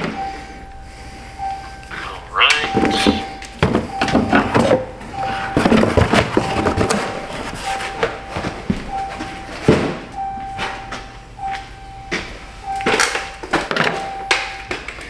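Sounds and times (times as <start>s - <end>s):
repeating electronic warning chime: 0.0s - 5.6s, 6.8s - 14.8s.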